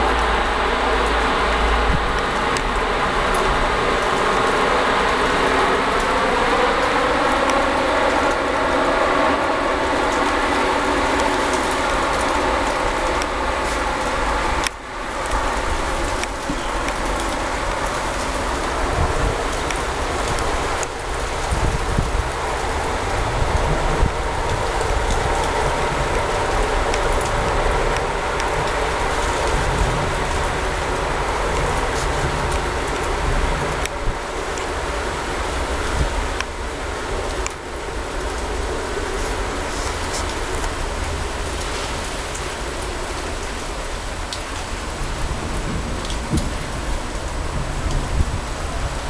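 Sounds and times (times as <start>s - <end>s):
heavy rain pouring: 0.0s - 49.0s
thunderstorm rushing and rumbling: 0.0s - 49.0s.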